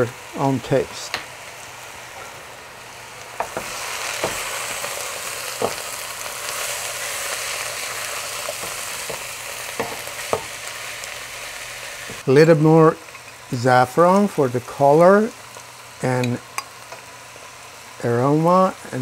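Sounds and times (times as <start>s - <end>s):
meat frying in a pot: 0.0s - 19.0s.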